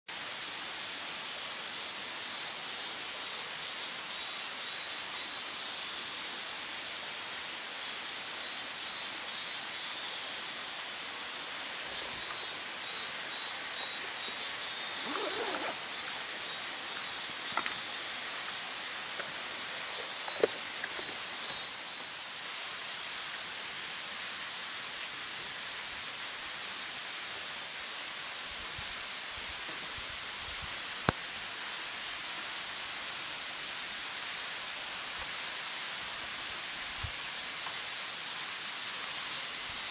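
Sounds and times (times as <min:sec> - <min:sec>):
waterfall hissing: 0:00.1 - 0:39.9.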